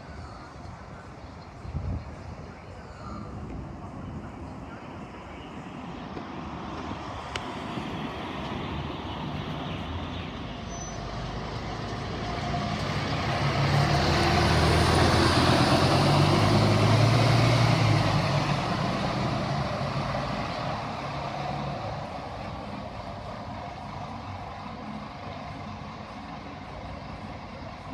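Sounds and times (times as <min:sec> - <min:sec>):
bus engine accelerating: 0:03.2 - 0:27.9.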